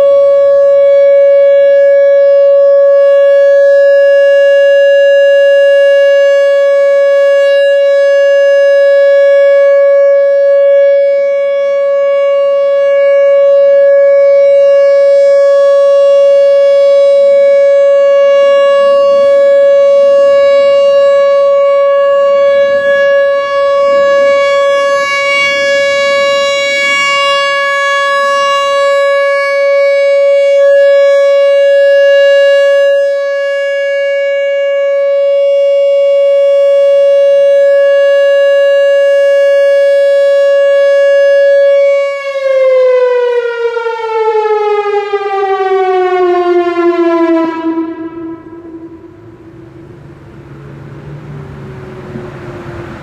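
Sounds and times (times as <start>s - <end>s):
outdoor warning siren: 0.0s - 53.0s.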